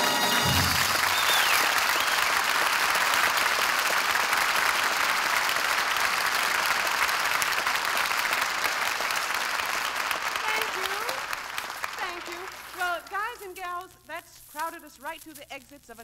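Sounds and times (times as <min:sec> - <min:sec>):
studio audience applauding: 0:00.0 - 0:13.4.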